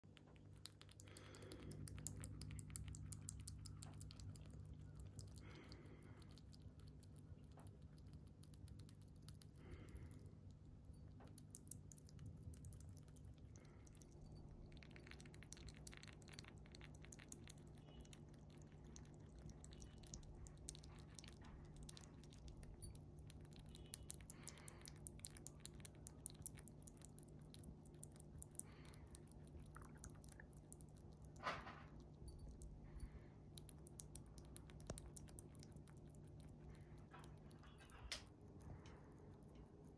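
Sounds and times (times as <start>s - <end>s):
small animal chewing wetly: 0.0s - 39.9s.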